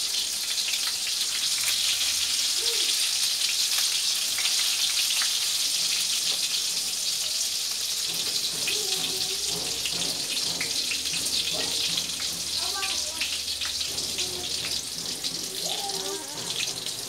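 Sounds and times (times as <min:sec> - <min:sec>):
oil sizzling in deep-frying: 0:00.0 - 0:17.0.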